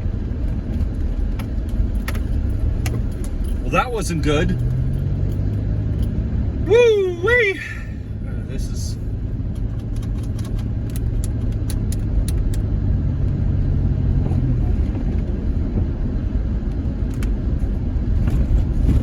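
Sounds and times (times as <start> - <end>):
blizzard wind buffeting a van: 0.0 - 19.0.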